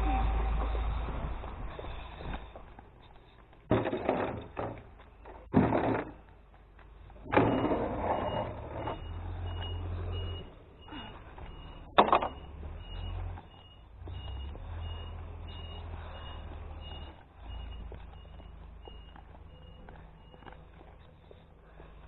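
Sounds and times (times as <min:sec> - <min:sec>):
truck engine running low: 0:00.0 - 0:22.0.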